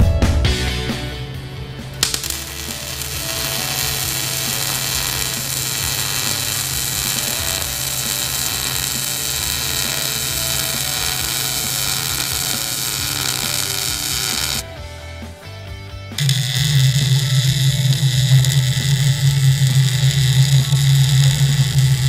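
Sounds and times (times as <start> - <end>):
welding arc hissing: 1.9 - 14.8, 16.2 - 22.0.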